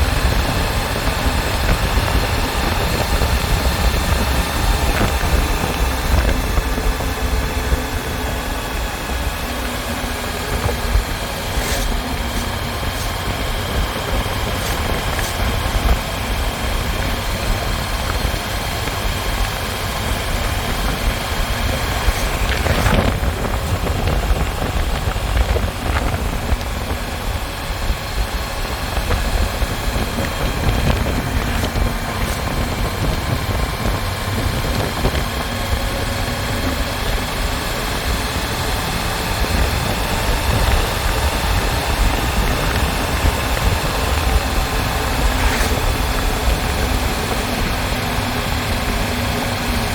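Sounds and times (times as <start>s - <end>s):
motorcycle engine running: 0.0s - 49.9s
wind rumbling on microphone: 0.0s - 49.9s.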